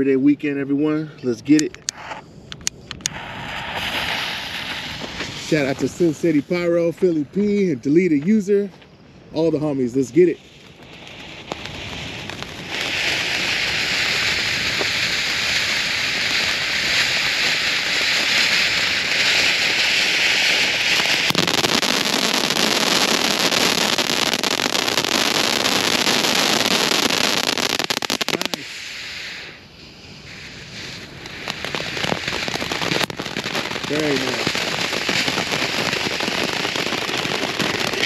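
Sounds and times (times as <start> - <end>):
firework crackling pops: 1.5 - 38.0
firework rushing hiss: 1.7 - 38.0.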